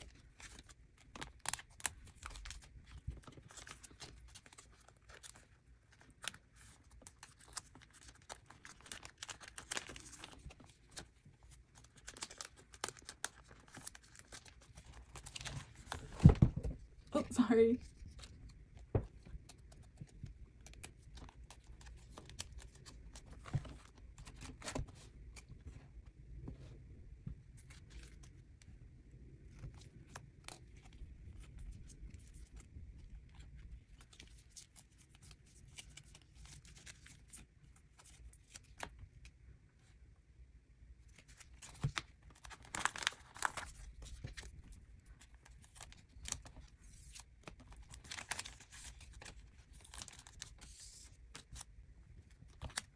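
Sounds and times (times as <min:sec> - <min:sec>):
plastic sleeves rustling and crinkling: 0:00.0 - 0:40.0, 0:41.0 - 0:52.9.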